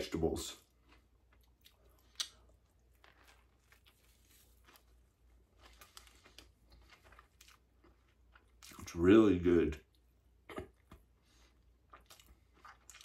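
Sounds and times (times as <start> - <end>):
chewing sandwich: 0.5 - 9.0, 9.8 - 13.0.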